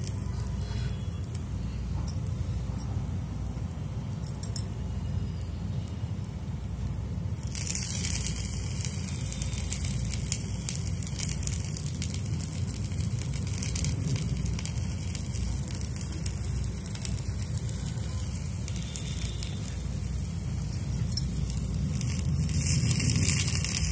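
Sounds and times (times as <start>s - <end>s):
fire crackling and popping: 0.0s - 23.9s.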